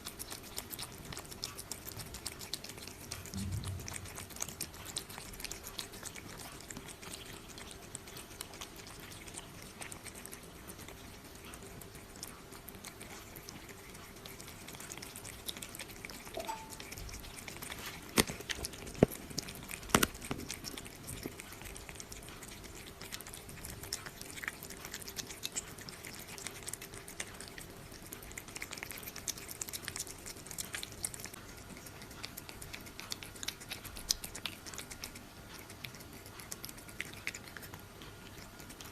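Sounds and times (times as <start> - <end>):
cat chewing wet food: 0.0 - 38.9.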